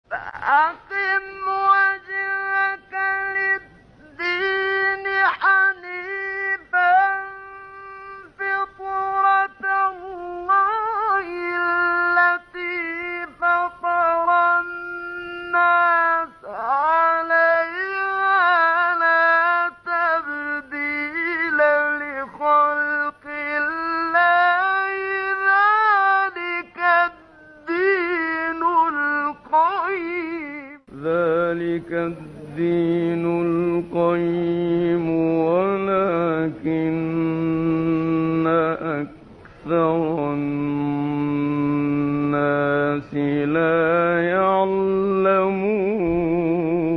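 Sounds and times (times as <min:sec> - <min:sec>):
man reciting: 0:00.0 - 0:46.9.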